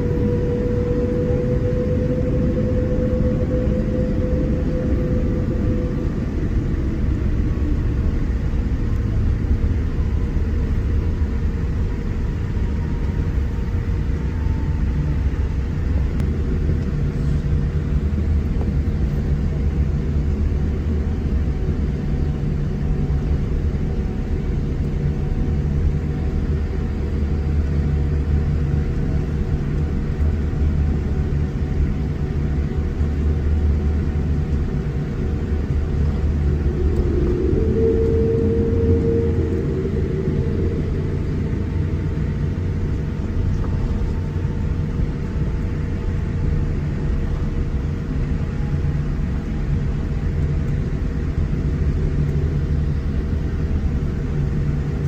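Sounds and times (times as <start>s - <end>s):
aircraft cabin rumble: 0.0s - 55.0s
faint steady hum: 0.0s - 55.0s.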